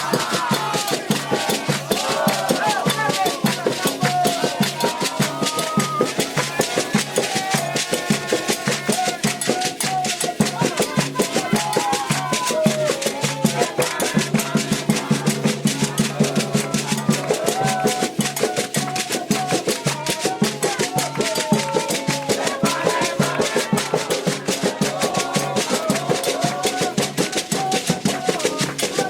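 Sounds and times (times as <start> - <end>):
hand drums playing: 0.0 - 29.0
voices singing a chant: 0.0 - 29.0.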